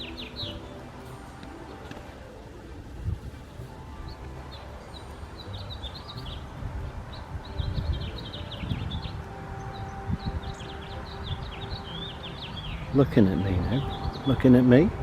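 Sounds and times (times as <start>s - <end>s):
birds chirping: 0.0s - 15.0s
wind rumble on microphone: 0.0s - 15.0s.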